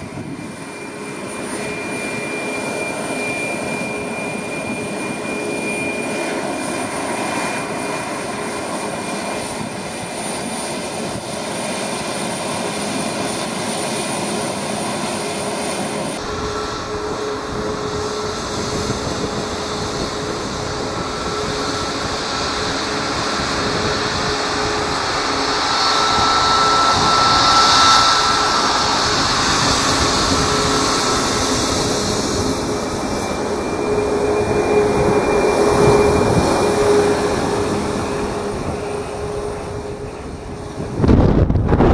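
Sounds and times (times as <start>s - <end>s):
jet engine roar with whine: 0.0s - 41.9s.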